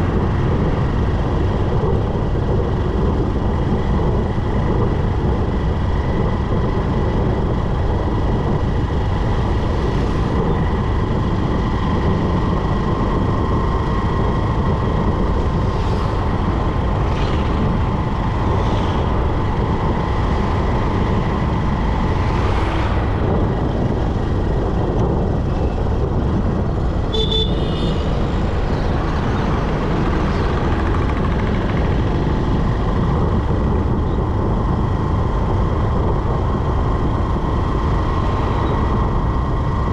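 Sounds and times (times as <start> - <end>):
motorcycle engine: 0.0 - 39.9
passing vehicles: 0.0 - 39.9
road and wind noise: 0.0 - 39.9.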